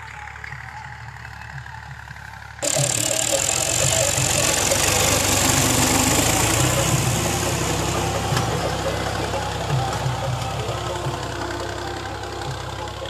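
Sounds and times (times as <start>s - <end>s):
cultivator dragging through soil: 0.0s - 13.0s
tractor diesel engine running: 0.0s - 13.0s.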